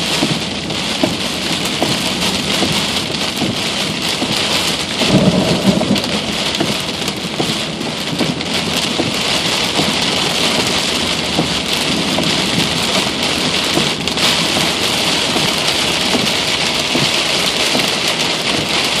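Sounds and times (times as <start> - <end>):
heavy rain pouring: 0.0 - 19.0
thunder rumbling: 1.1 - 17.6.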